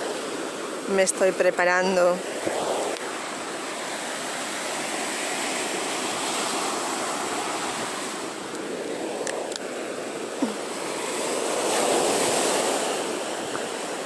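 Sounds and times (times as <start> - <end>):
waves breaking on a beach: 0.0 - 14.0.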